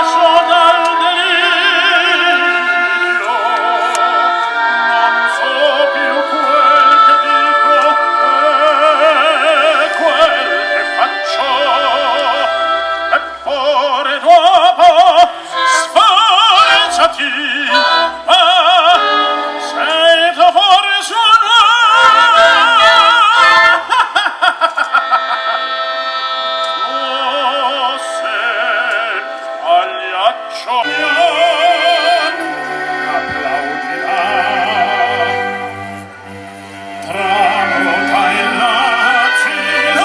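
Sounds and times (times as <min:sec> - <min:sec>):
operatic singing with vibrato: 0:00.0 - 0:40.0
symphonic orchestra: 0:00.0 - 0:40.0.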